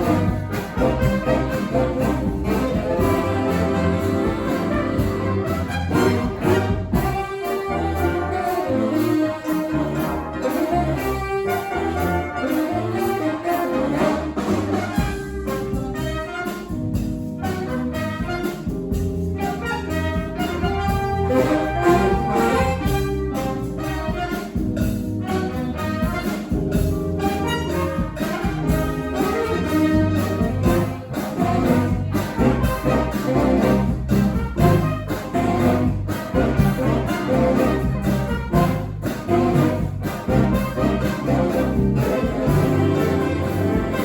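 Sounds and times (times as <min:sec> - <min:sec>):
drums: 0:00.0 - 0:44.0
horns playing: 0:00.0 - 0:44.0
low bass line: 0:00.0 - 0:44.0.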